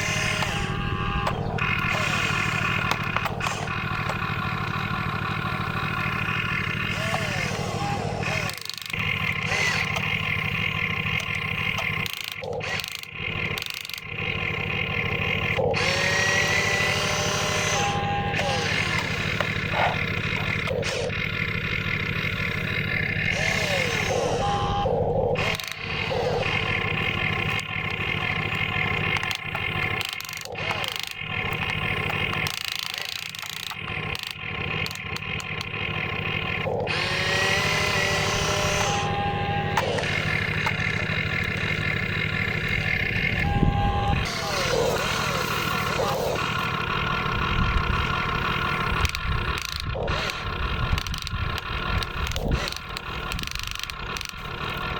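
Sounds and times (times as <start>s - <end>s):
sharp clicks: 0.0s - 4.3s, 6.8s - 21.2s, 23.2s - 54.9s
electric motor whine: 0.0s - 54.9s
small electric motors whirring: 0.0s - 54.9s
steady mechanical hum: 0.0s - 54.9s.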